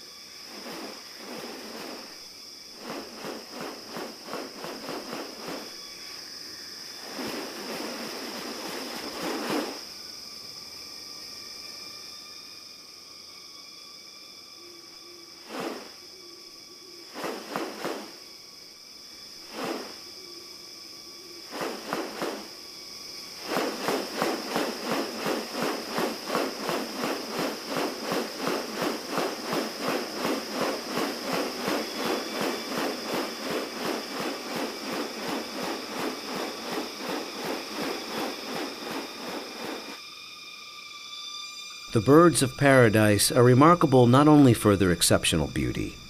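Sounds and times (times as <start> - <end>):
high insect drone: 0.0 - 46.0.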